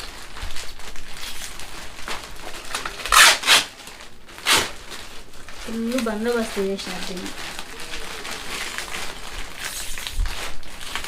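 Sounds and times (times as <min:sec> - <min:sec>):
packaging rustling and crackling: 0:00.0 - 0:11.0.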